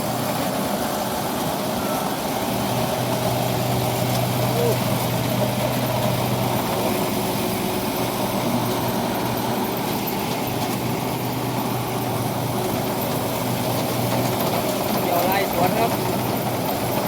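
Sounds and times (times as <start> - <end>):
harvester diesel engine running: 0.0 - 17.0.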